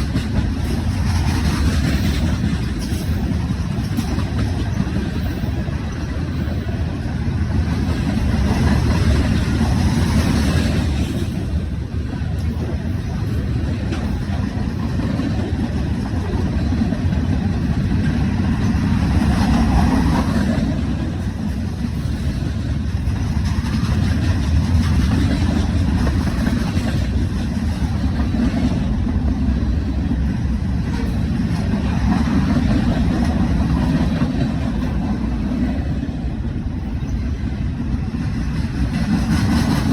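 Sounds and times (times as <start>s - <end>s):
train passing: 0.0s - 39.9s.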